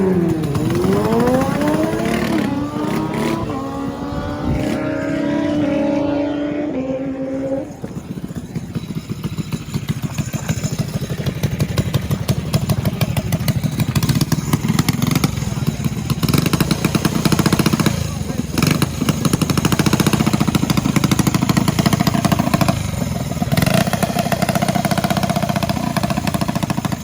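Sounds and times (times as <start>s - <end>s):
motorcycle engine revving hard: 0.0s - 27.0s.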